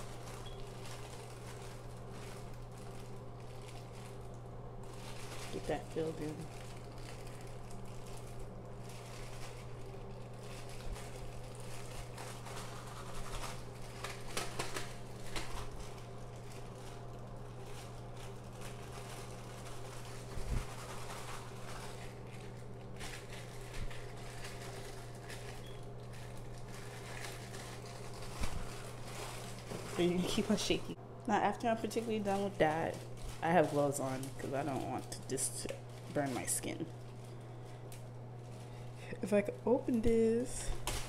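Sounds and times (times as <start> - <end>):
plastic bag crinkling: 0.0 - 41.0
steady low hum: 0.0 - 41.0.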